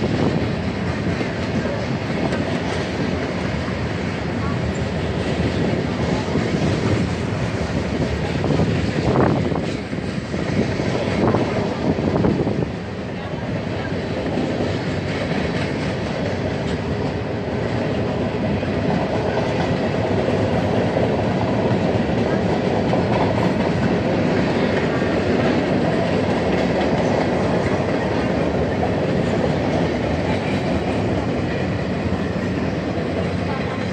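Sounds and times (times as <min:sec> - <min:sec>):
freight train cars rolling past: 0:00.0 - 0:33.9.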